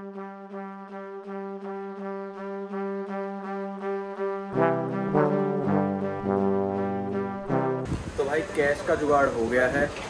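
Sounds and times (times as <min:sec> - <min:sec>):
brassy low note restruck: 0:00.0 - 0:08.1.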